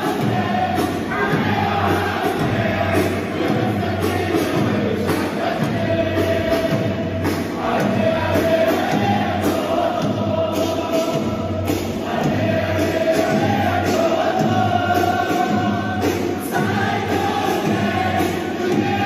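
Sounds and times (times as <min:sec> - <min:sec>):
stadium crowd singing a chant: 0:00.0 - 0:19.0.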